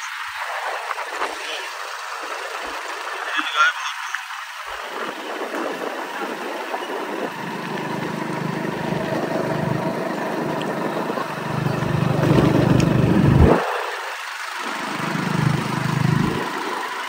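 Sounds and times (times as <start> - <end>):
motorcycle engine running: 0.0 - 3.5, 4.2 - 17.0
rushing wind and road noise: 0.0 - 17.0.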